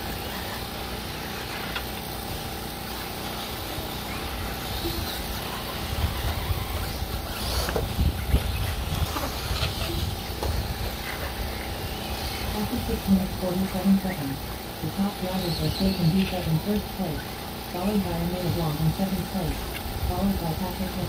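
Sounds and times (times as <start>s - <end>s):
electric rc buggies running: 0.0s - 21.0s.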